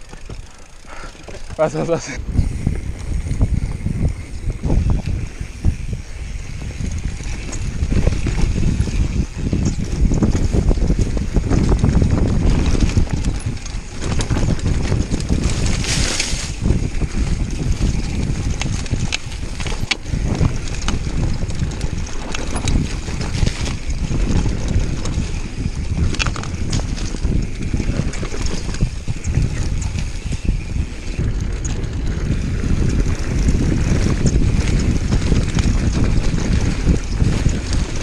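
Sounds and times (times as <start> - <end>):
bike knocks and rattles: 0.0 - 38.0
grass brushing against bike: 0.0 - 38.0
tyres on dirt: 0.0 - 38.0
wind buffeting microphone: 0.0 - 38.0.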